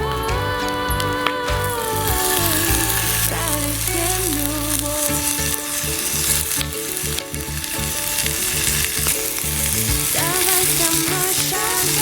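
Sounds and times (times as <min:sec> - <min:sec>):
background music: 0:00.0 - 0:12.0
meat sizzling in a pan: 0:01.7 - 0:12.0.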